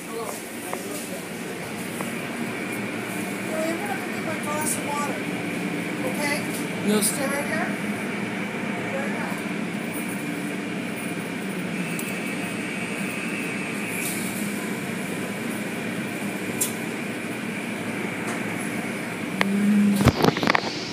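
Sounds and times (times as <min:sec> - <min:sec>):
car wash machinery hum: 0:00.0 - 0:20.9.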